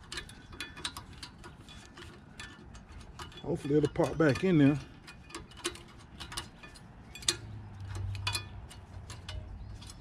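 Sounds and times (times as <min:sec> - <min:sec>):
metallic clicks and taps: 0:00.0 - 0:10.0.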